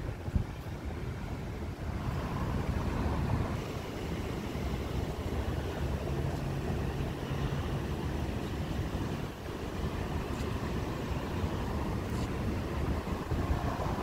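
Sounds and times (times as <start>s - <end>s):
street traffic rumble: 0.0s - 14.0s
wind on microphone: 0.0s - 14.0s.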